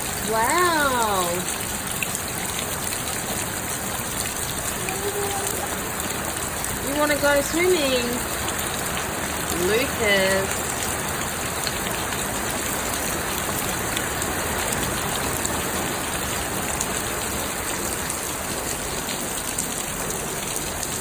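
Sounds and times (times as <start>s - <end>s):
falling water hiss and patter: 0.0s - 21.0s.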